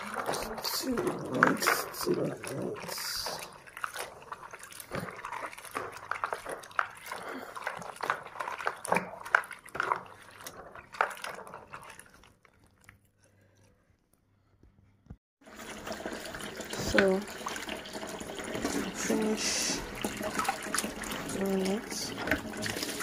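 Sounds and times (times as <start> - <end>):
water sloshing: 0.0 - 13.8, 15.6 - 23.0.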